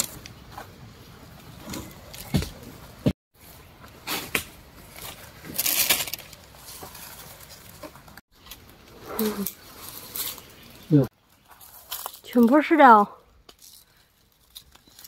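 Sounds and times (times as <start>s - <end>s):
brush and leaves rustling: 0.0s - 15.0s.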